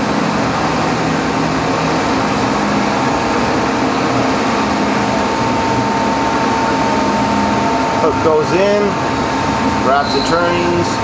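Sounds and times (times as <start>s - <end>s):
lathe machine hum: 0.0s - 11.0s
thin steady whine: 0.0s - 11.0s.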